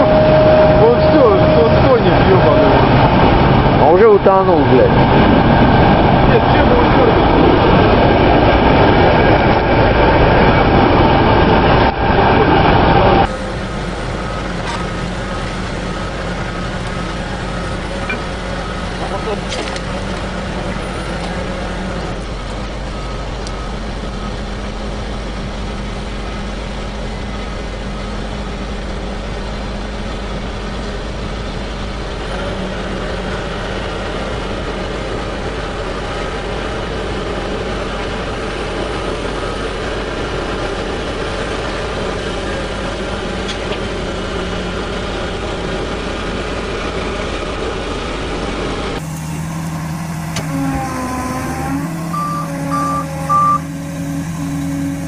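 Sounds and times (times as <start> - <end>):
heavy machine engine rumbling: 0.0 - 55.0.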